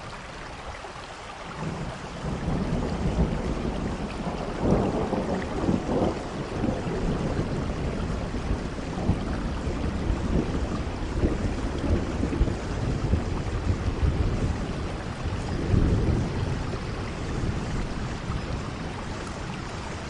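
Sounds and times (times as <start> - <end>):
steady rain falling: 0.0 - 20.0
low thunder rumbling: 1.6 - 20.0.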